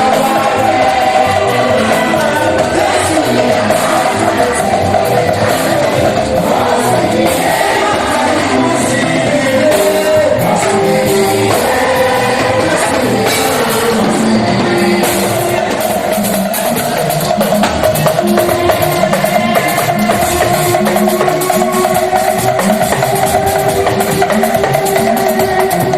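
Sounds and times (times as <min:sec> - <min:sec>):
choir singing: 0:00.0 - 0:25.9
drum kit and percussion: 0:00.0 - 0:25.9
live band: 0:00.0 - 0:25.9.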